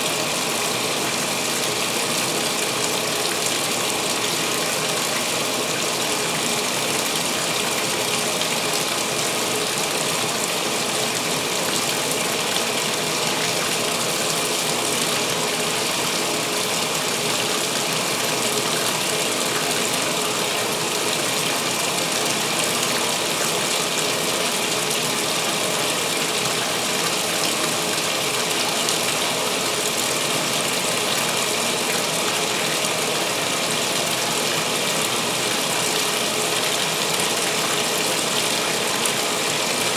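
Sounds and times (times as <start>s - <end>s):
water rushing into washer tub: 0.0s - 39.9s.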